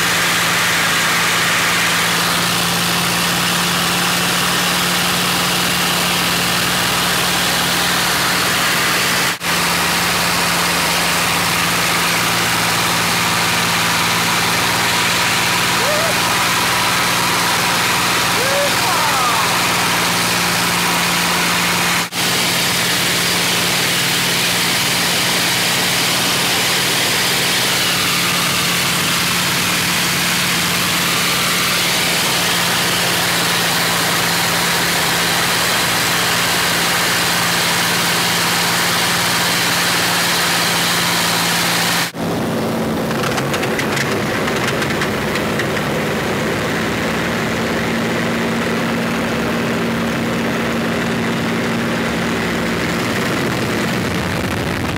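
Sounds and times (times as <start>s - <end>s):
aircraft engine running in flight: 0.0s - 54.9s.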